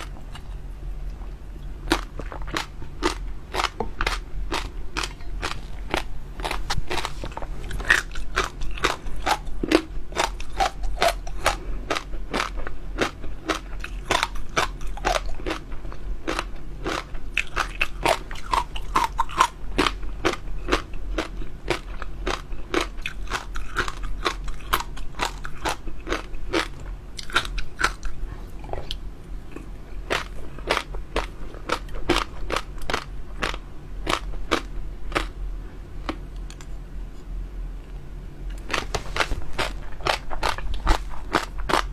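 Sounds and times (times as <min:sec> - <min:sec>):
crunchy chewing: 0:00.0 - 0:35.4, 0:36.0 - 0:41.9.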